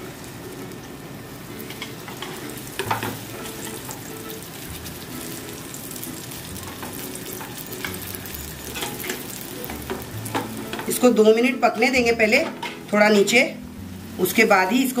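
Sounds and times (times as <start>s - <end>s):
flatbread sizzling in oil: 0.0s - 15.0s.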